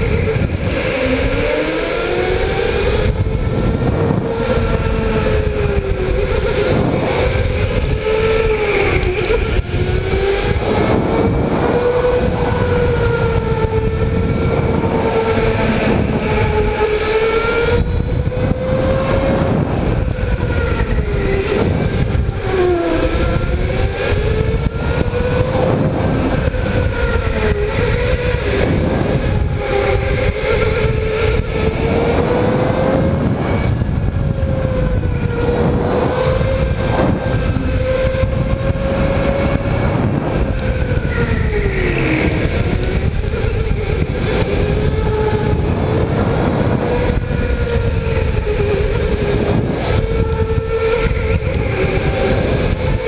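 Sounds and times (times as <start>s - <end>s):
electric motor whining: 0.0s - 53.0s
kart running on track: 0.0s - 53.0s.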